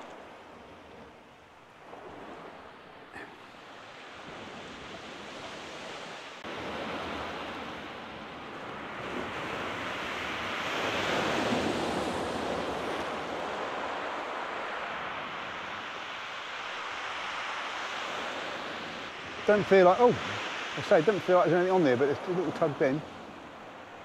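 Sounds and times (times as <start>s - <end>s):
sea waves breaking: 0.0s - 24.0s.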